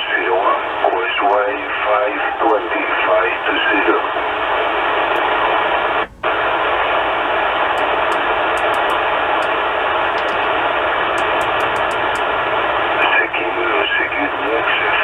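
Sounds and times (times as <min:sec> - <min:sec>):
radio receiver static hiss: 0:00.0 - 0:15.0.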